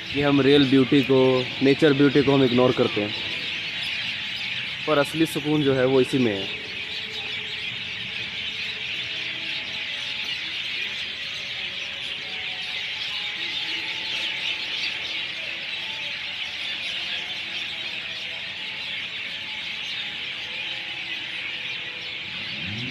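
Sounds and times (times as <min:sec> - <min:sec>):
chorus of small birds chirping: 0:00.0 - 0:22.9.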